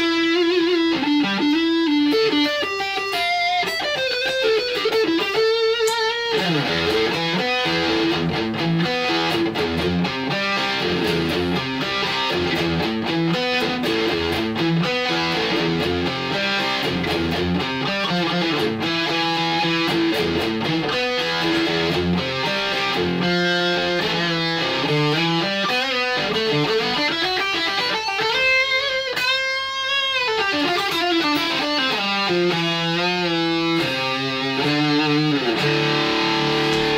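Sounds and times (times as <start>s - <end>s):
electric guitar lead lines: 0.0s - 36.9s.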